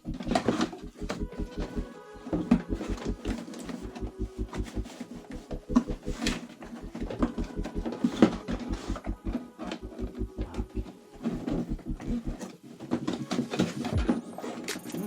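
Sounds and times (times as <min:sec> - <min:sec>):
steady low pulsing beat: 0:00.0 - 0:14.1.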